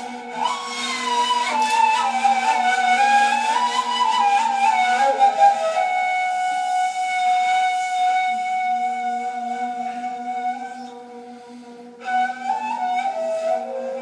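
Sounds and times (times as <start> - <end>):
end-blown reed flutes playing: 0.0 - 14.0.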